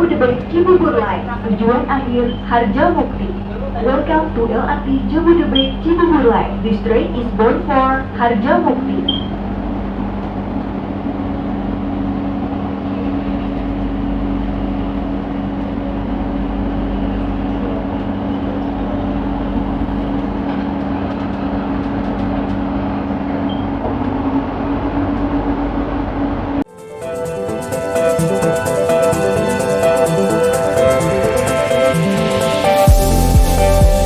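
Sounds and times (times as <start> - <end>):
train running rumble: 0.0 - 34.0
two-note electric hum: 0.0 - 34.0.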